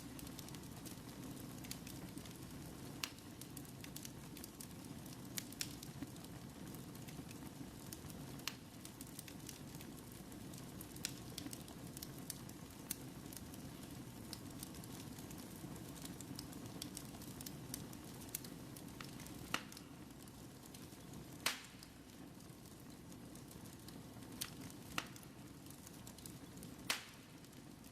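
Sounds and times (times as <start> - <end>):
fire crackling and popping: 0.0 - 27.9
flames rumbling: 0.0 - 27.9
wood snapping in fire: 0.0 - 27.9.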